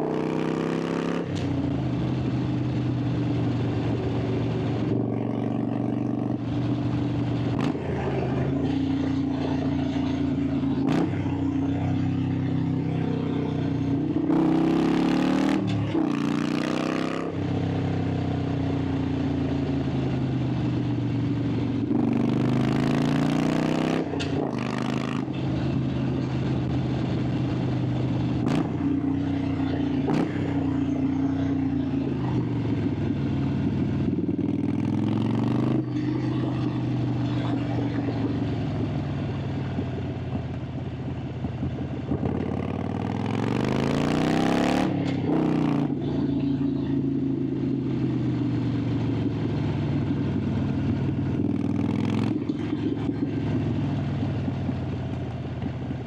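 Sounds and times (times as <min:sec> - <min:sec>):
motorcycle exhaust: 0:00.0 - 0:56.0.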